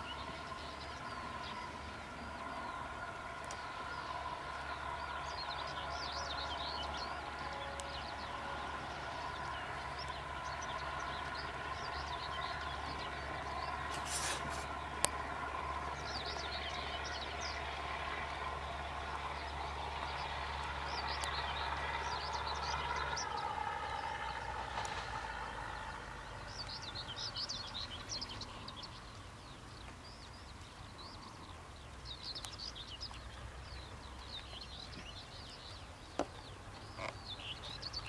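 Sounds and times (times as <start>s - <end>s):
birds chirping: 0.0s - 38.0s
distant train rumble: 0.0s - 38.0s.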